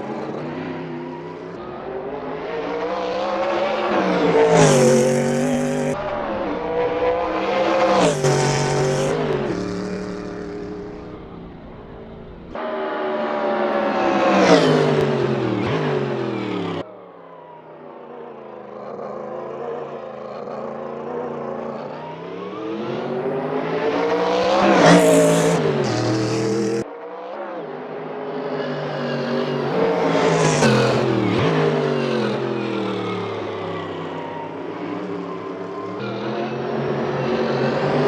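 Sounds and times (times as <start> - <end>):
race cars passing at speed: 0.0 - 38.0.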